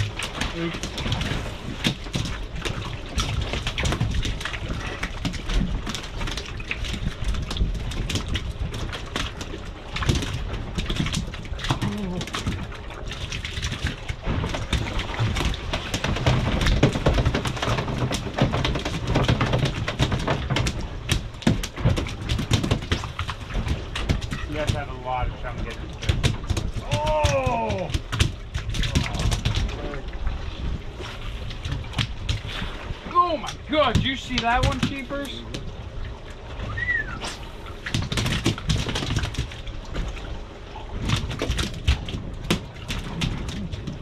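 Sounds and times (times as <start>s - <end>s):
water slapping boat hull: 0.0s - 44.0s.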